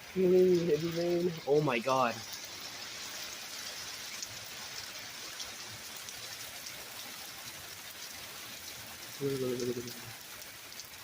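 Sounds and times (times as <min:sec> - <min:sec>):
heavy rain with hail: 0:00.0 - 0:11.0.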